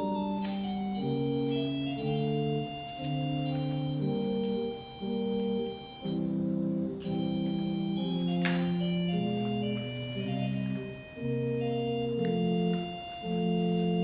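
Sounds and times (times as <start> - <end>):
organ playing held chords: 0.0 - 14.0.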